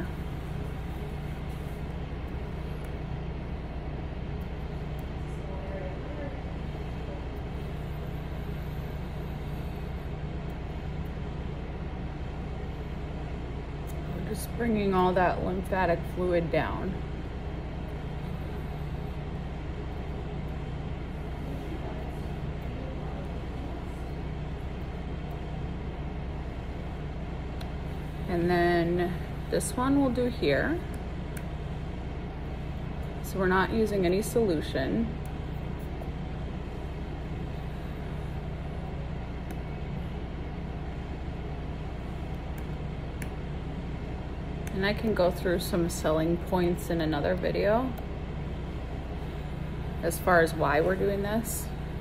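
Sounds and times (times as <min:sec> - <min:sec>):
vacuum pump humming: 0:00.0 - 0:52.0.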